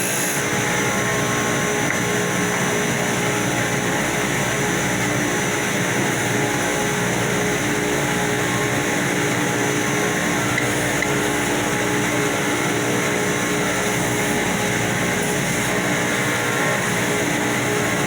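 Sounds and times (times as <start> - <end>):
electric power sander running: 0.0 - 18.0.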